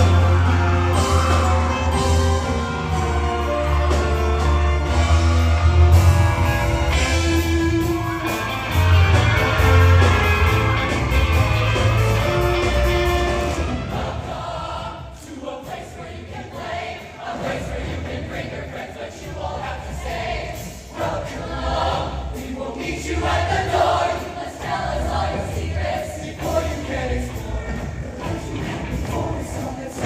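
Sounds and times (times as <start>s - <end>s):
loud instrumental accompaniment: 0.0s - 30.0s
show choir singing: 0.0s - 30.0s.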